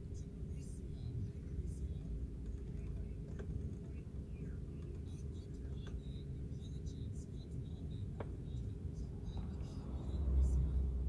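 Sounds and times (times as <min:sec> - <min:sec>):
car cabin low hum: 0:00.4 - 0:11.0.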